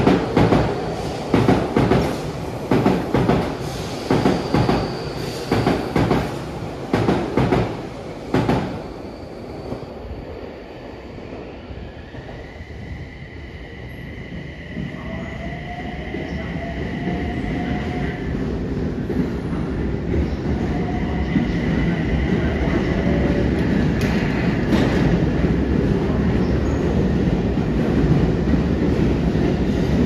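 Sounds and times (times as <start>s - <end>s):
train rumbling in a tunnel: 0.0s - 30.0s.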